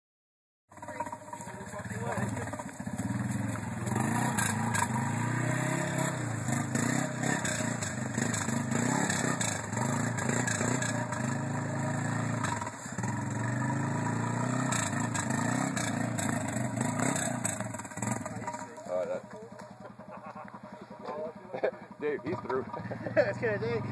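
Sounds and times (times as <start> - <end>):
atv engine revving: 0.7 - 23.9.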